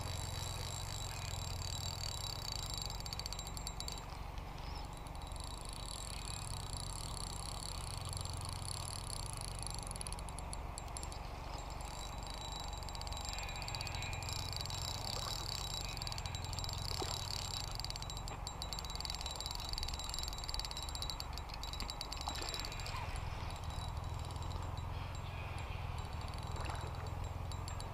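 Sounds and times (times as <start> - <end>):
high chirring of insects: 0.0 - 27.9.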